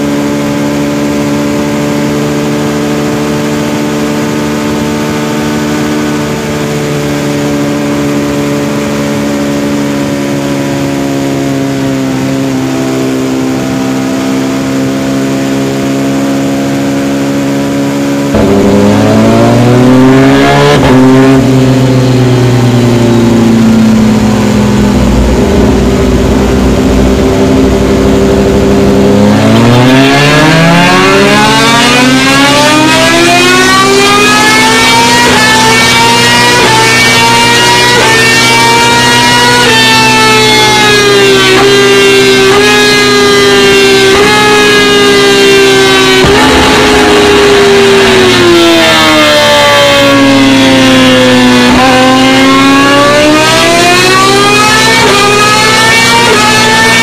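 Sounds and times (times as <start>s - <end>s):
motorcycle engine running: 0.0s - 39.4s, 41.2s - 52.4s.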